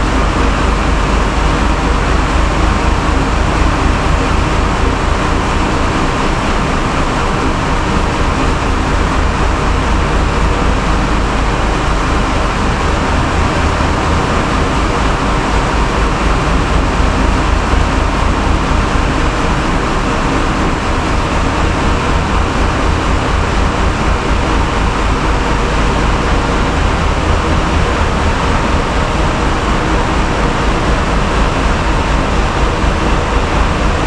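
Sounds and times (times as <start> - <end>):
rushing water noise: 0.0 - 34.0
ship engines droning: 0.0 - 34.0.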